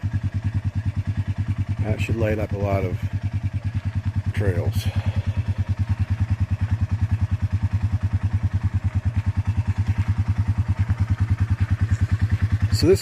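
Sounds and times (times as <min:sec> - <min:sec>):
motorbike engine idling: 0:00.0 - 0:13.0.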